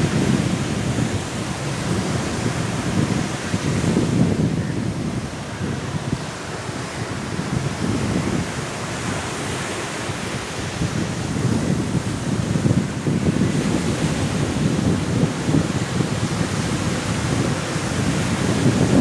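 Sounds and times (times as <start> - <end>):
strong wind: 0.0 - 19.0
waves washing onto shore: 0.0 - 19.0.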